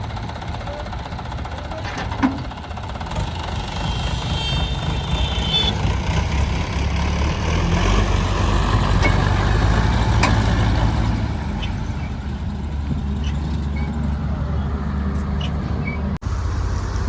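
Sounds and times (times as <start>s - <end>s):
heavy diesel engine under load: 0.0s - 17.0s.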